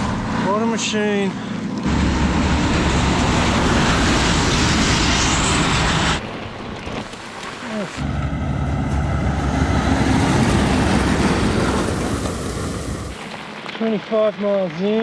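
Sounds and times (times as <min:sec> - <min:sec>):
bicycle tyres on gravel: 0:01.8 - 0:15.0.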